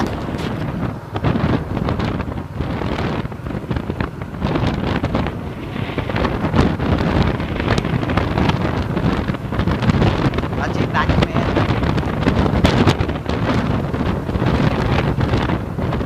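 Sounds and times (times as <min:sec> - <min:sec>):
motorbikes running: 0:00.0 - 0:16.0
wind buffeting microphone: 0:00.0 - 0:16.0.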